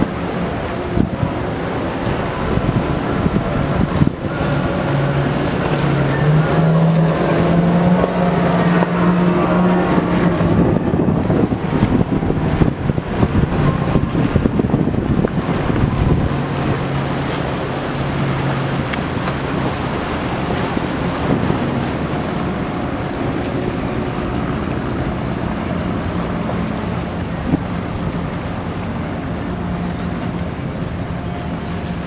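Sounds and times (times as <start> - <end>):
boat wake rushing: 0.0 - 32.0
diesel engines droning: 0.0 - 32.0
surf: 0.0 - 32.0
wind gusts on microphone: 0.0 - 32.0.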